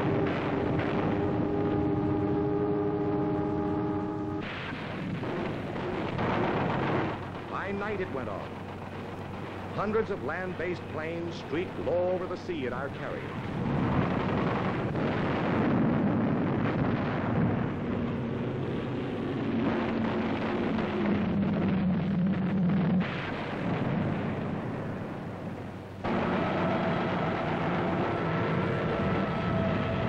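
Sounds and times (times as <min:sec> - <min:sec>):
anti-aircraft fire and explosions: 0:00.0 - 0:30.0
low drone: 0:00.0 - 0:30.0
plane engine drone with whine: 0:00.0 - 0:30.0.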